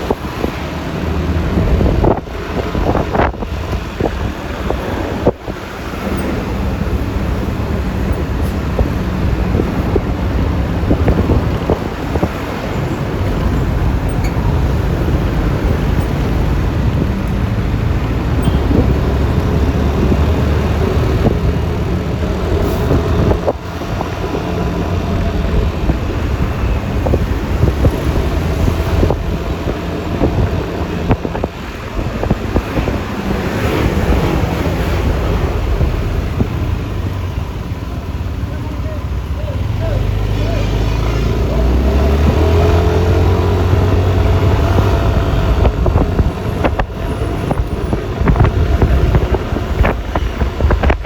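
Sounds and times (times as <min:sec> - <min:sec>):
traffic noise: 0:00.0 - 0:51.0
wind rushing over microphone: 0:00.0 - 0:51.0.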